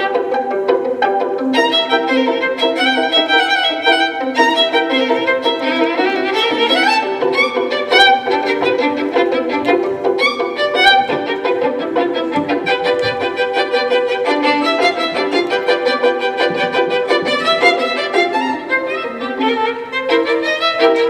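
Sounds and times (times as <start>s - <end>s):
fast violin passage: 0.0s - 21.0s.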